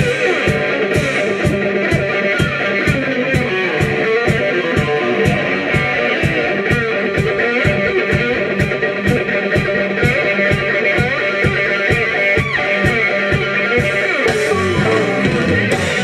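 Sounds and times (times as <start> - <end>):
drum kit beat: 0.0 - 16.0
electric guitars: 0.0 - 16.0.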